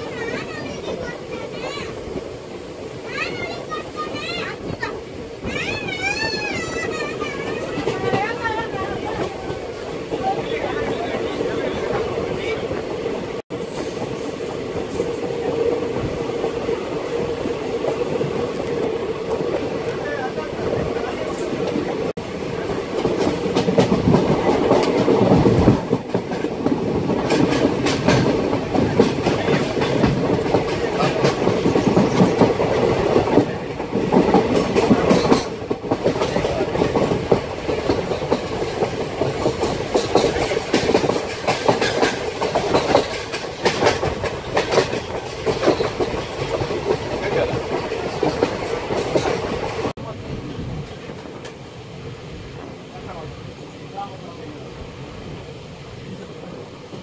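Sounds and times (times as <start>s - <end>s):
clickety-clack of rail joints: 0.0s - 51.8s
train wheels rumbling on rails: 0.0s - 57.0s.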